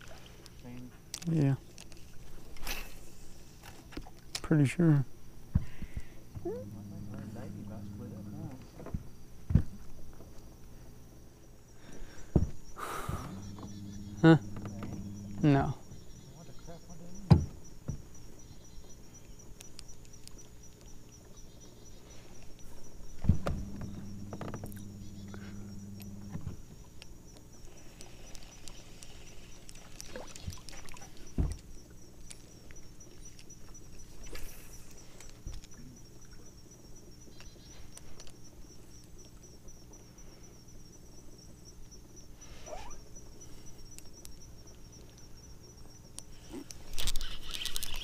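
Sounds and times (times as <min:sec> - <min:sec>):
insects trilling: 0:00.0 - 0:48.0
low steady hum: 0:00.0 - 0:48.0.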